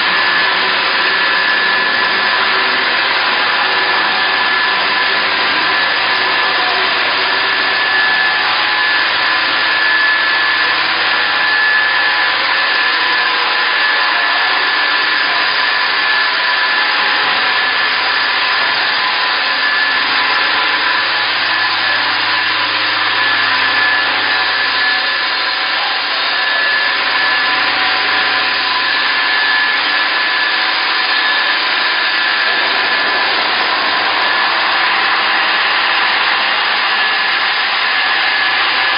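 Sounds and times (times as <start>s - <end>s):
thin high whine: 0.0s - 38.9s.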